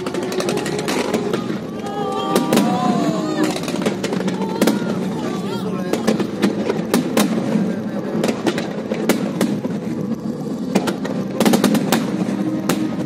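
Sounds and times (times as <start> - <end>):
fireworks bangs and cracks: 0.0 - 13.0
steady background din: 0.0 - 13.0.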